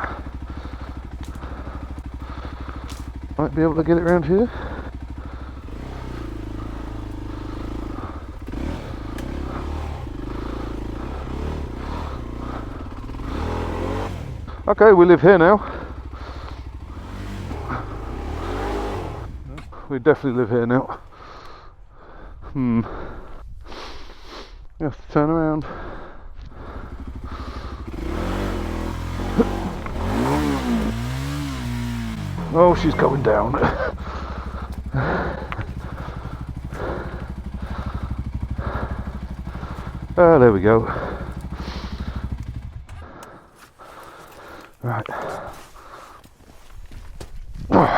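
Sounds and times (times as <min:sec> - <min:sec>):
motorcycle engine revving: 0:00.0 - 0:21.2, 0:26.4 - 0:45.3.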